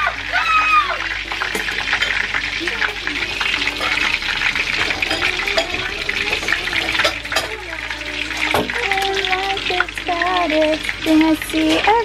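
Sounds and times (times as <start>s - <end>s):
cutlets deep-frying in oil: 0.0s - 12.0s.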